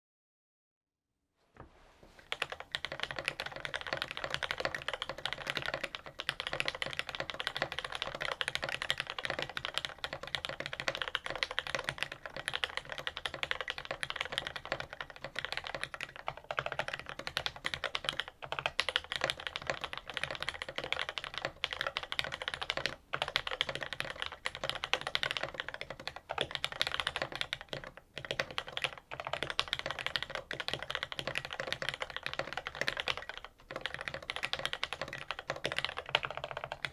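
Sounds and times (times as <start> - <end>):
fast typing on mechanical keyboard: 2.2 - 36.9.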